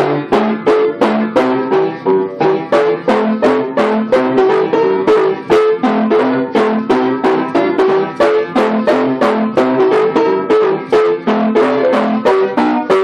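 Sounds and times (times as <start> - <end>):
lively piano tune: 0.0 - 13.0.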